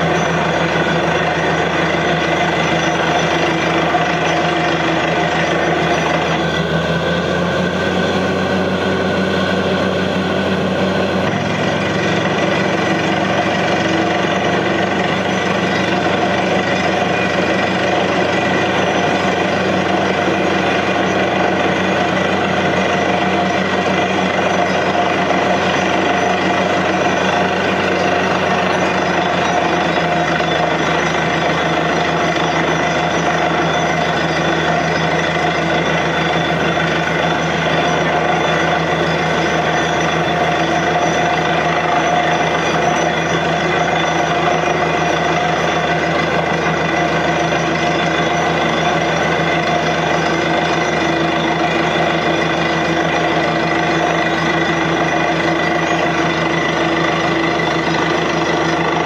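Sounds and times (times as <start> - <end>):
drilling rig machinery drone: 0.0 - 59.0.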